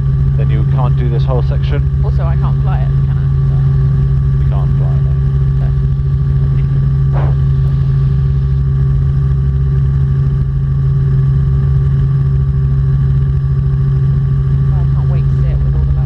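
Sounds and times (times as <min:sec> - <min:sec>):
helicopter engine and rotors drone: 0:00.0 - 0:16.0.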